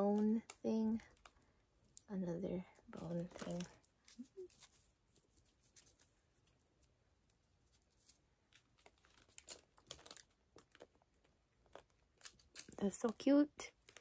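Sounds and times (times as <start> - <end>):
faint rustling: 1.0 - 13.1.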